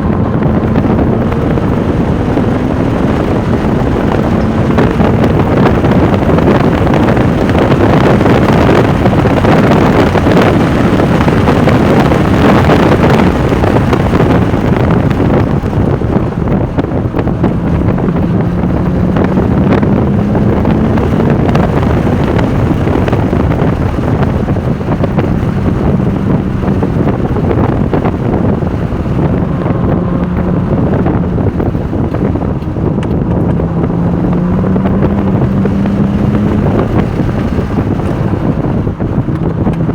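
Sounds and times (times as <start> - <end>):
car engine revving under load: 0.0 - 39.9
wind and road noise: 0.0 - 39.9.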